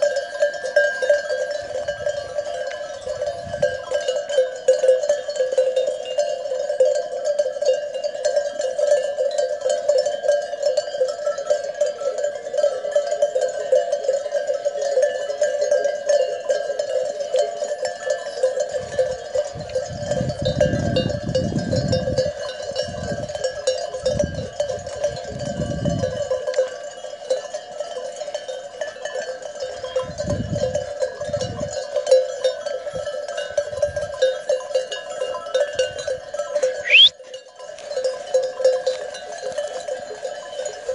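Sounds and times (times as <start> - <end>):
sheep bells jangling: 0.0 - 40.9.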